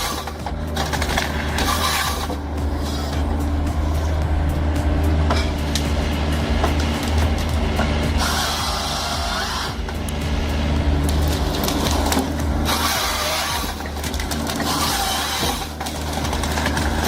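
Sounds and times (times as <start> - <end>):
harsh high-pitched working noise: 0.0 - 17.0
heavy machine engine running: 0.0 - 17.0.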